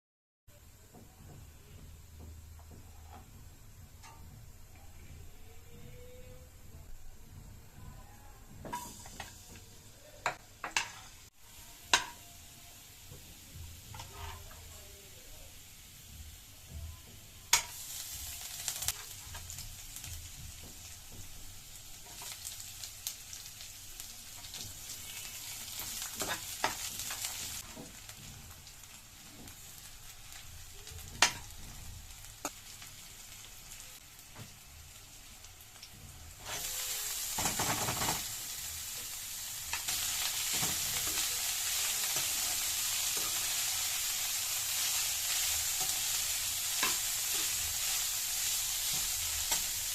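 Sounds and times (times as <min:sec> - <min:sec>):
food sizzling in hot oil: 0:08.1 - 0:49.9.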